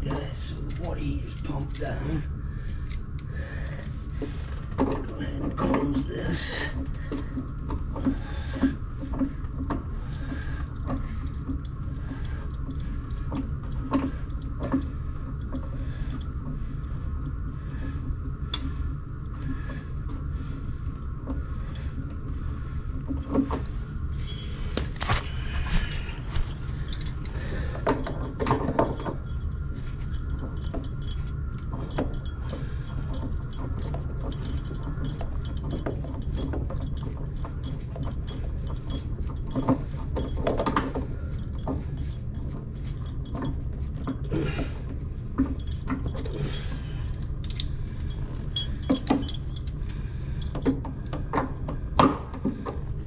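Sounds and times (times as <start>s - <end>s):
metallic clinks and rattles: 0.0s - 20.5s, 23.0s - 53.0s
low steady hum: 0.0s - 53.0s.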